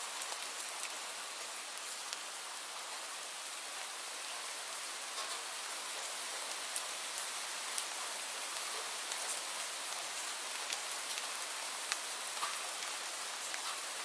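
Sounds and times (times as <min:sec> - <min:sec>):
steady rain hiss: 0:00.0 - 0:14.0
raindrops ticking on surface: 0:00.1 - 0:03.1, 0:05.1 - 0:14.0.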